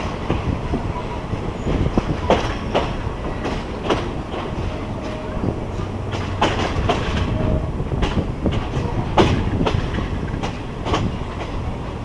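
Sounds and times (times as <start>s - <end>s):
train rumbling on rails: 0.0s - 12.0s
wheels clacking over rail joints: 0.0s - 12.0s.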